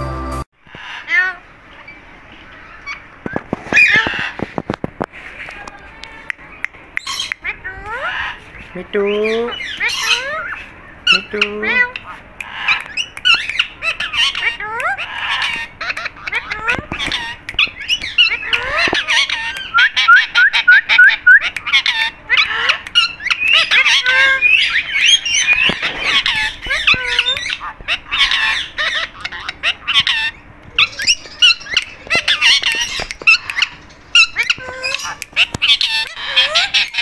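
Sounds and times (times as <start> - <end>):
parakeets chattering: 6.1 - 37.0.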